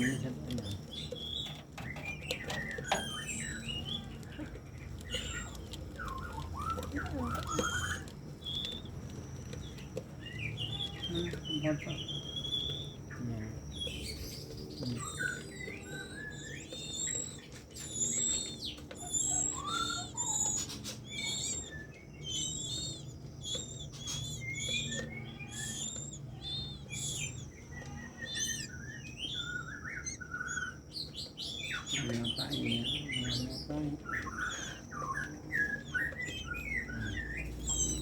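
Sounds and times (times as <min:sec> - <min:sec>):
birds chirping and whistling: 0:00.0 - 0:38.0.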